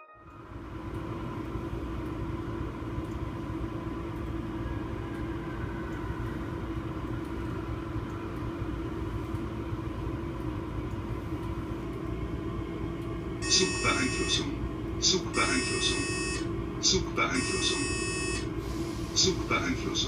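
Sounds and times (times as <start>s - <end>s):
locomotive cab hum and rumble: 0.3s - 20.0s.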